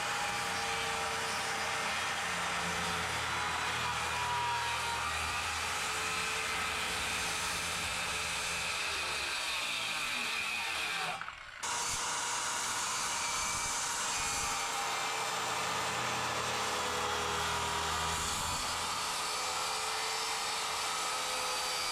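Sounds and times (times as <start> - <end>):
power tool running: 0.0 - 21.9.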